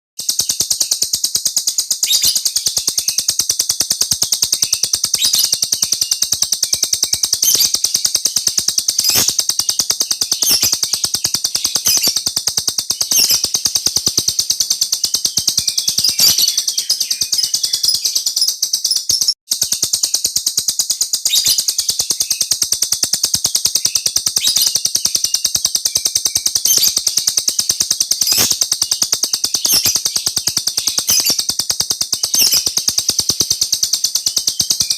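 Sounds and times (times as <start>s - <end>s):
cage bird trilling: 0.2s - 34.9s.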